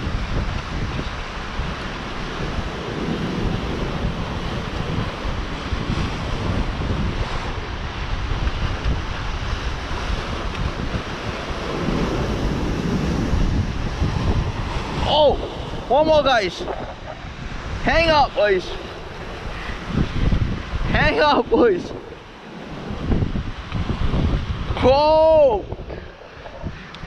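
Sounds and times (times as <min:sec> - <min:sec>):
surf washing among rocks: 0:00.0 - 0:27.0
wind buffeting microphone: 0:00.0 - 0:27.0.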